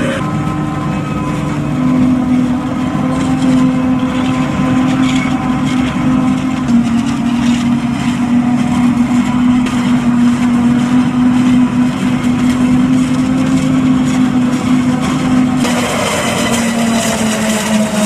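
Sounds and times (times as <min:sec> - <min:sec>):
tractor engine: 0:00.0 - 0:18.0
forage harvester chopping under load: 0:02.6 - 0:18.0.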